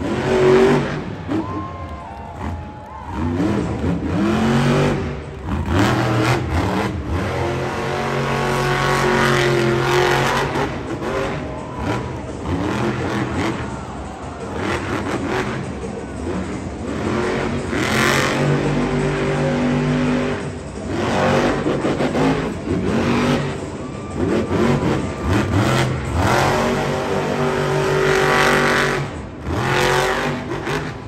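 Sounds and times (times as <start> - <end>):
truck engine revving hard: 0.0 - 1.8, 2.4 - 31.0.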